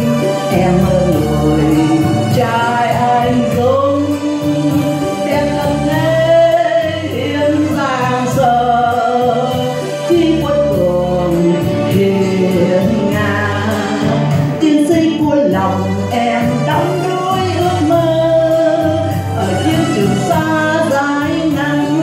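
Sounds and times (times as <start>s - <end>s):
backing music: 0.0s - 22.0s
woman singing into microphone: 0.0s - 22.0s.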